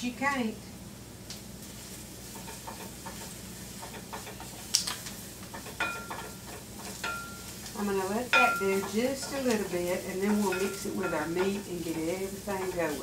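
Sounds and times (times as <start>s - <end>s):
onions sizzling: 0.2s - 13.0s
wooden spoon scraping skillet: 1.6s - 13.0s
spoon tapping pan: 2.3s - 13.0s.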